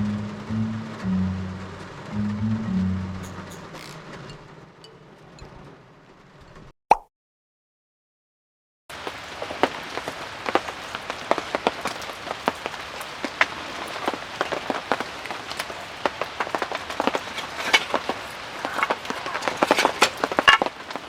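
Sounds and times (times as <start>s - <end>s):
rain drops hitting surface: 0.0s - 6.4s, 8.9s - 21.0s.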